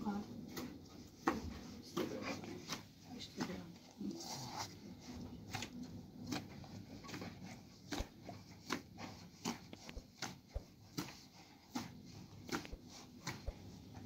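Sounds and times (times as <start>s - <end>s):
dough slapping against steel bowl: 0.4s - 3.8s, 5.4s - 14.0s.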